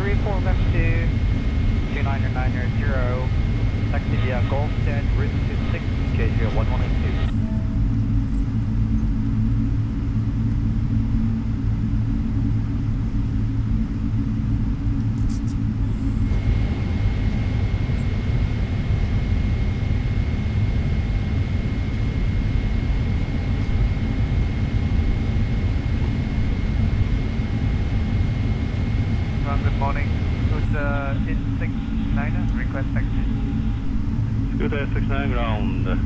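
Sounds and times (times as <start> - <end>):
high whine: 0.0 - 10.3, 15.3 - 36.0
airplane cabin rumble: 0.0 - 36.0.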